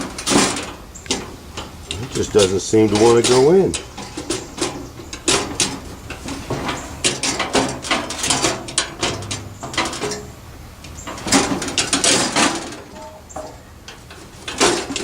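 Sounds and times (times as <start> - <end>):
metal tank knocking and scraping: 0.0 - 15.0.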